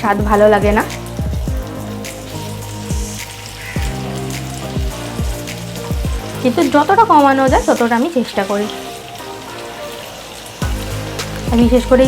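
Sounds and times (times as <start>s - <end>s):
food sizzling in a pan: 0.0s - 12.0s
quiet background music: 0.0s - 12.0s.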